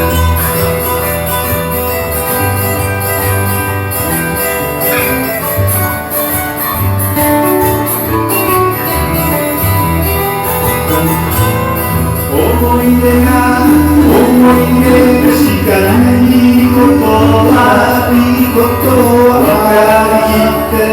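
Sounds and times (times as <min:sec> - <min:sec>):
live band guitar-led music: 0:00.0 - 0:20.9.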